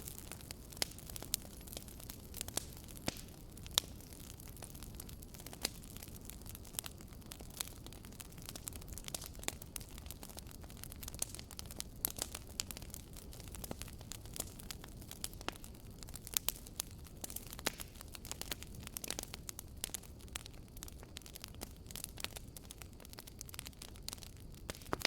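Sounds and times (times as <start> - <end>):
campfire crackling: 0.0 - 25.0
low rumble of flames: 0.0 - 25.0.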